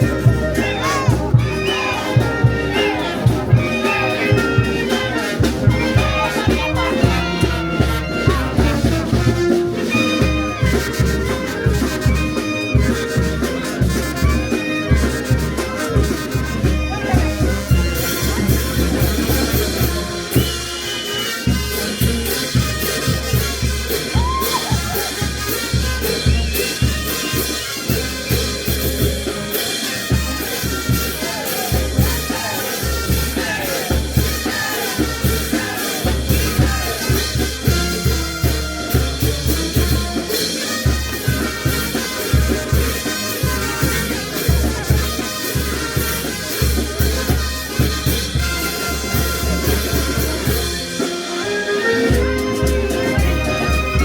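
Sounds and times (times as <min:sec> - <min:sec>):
drum beat: 0:00.0 - 0:51.2
brass band playing: 0:00.0 - 0:54.0
cymbals: 0:00.0 - 0:54.0.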